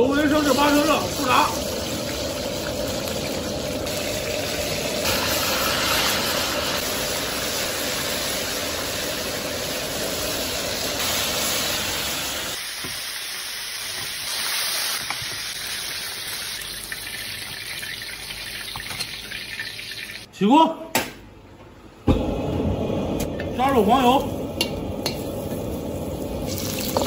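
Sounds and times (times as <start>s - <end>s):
chicken deep-frying in oil: 0.0s - 20.3s, 24.0s - 27.0s.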